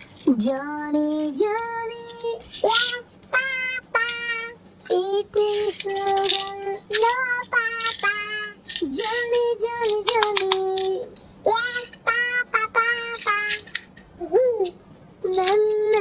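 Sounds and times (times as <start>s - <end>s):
high-pitched voice singing: 0.3s - 16.0s.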